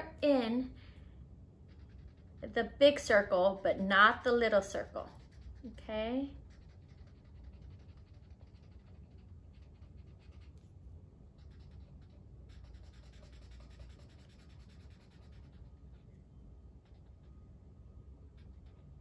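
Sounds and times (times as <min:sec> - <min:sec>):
marker scratching on paper: 0:01.6 - 0:16.2, 0:16.8 - 0:17.4.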